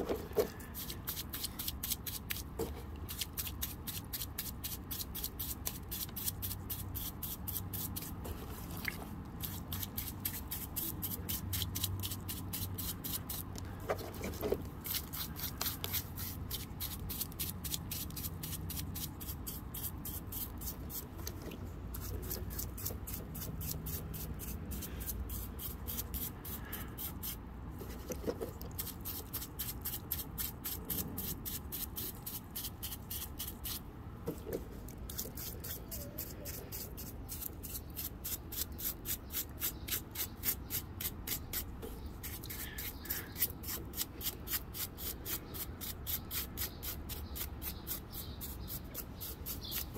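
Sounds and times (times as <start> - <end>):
paintbrush scrubbing wet rock: 0.0 - 33.8, 34.4 - 49.9.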